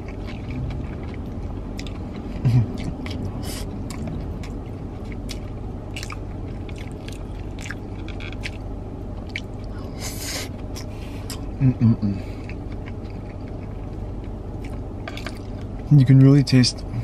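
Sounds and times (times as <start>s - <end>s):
chewing with wet mouth clicks: 0.0s - 9.9s, 10.5s - 11.5s, 12.4s - 15.9s.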